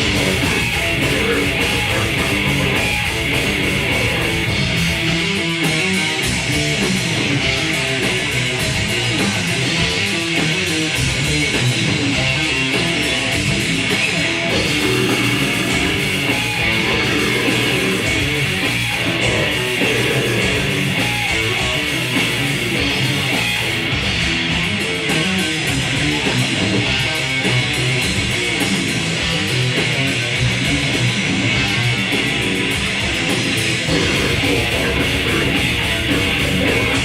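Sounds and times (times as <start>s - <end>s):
bass: 0.0s - 37.0s
distorted electric guitar riffing: 0.0s - 37.0s
drums and cymbals: 0.0s - 37.0s.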